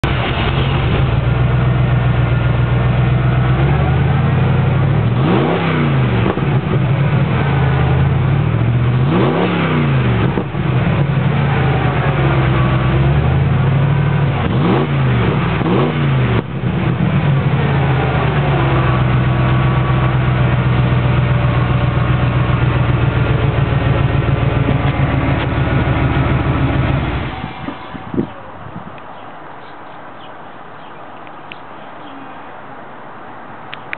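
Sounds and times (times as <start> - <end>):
engine idling and revving: 0.0 - 29.0.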